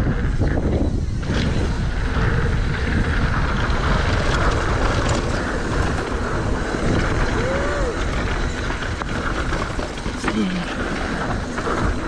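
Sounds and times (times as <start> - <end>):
mountain bike rattle: 0.0 - 12.0
wind rush on microphone: 0.0 - 12.0.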